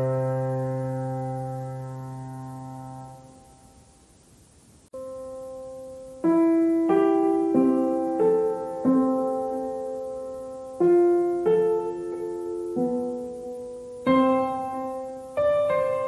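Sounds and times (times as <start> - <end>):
slow piano music: 0.0 - 3.8, 4.9 - 16.0.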